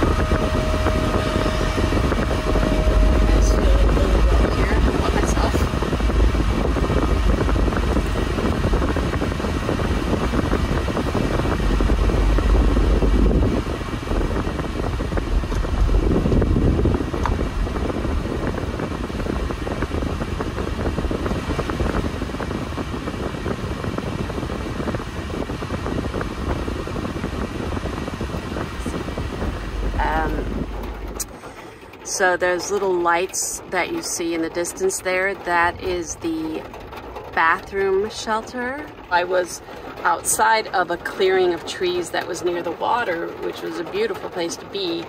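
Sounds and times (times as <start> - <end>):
van engine and road rumble: 0.0 - 45.0.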